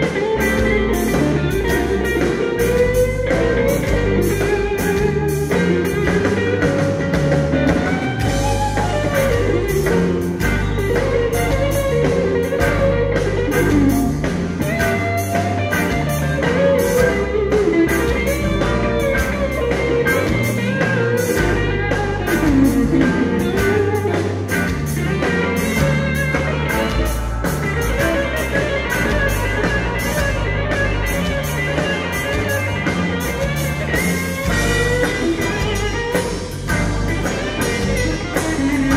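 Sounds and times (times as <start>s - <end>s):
electric guitar solo: 0.0s - 38.9s
live blues band playing: 0.0s - 38.9s.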